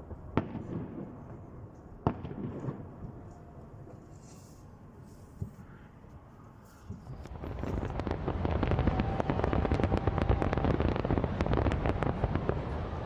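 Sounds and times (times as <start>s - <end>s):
fireworks crackling and popping: 0.0s - 4.4s, 6.9s - 13.0s.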